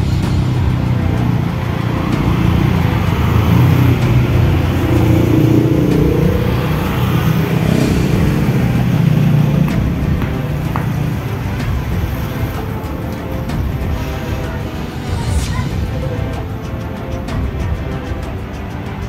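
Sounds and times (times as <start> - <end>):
motorcycles and scooters passing: 0.0 - 19.0.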